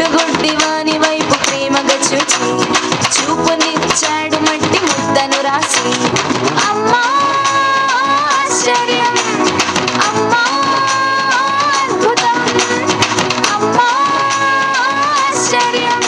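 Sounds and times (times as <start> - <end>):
devotional song with lead melody: 0.0 - 16.0
quick percussion beat: 0.0 - 16.0.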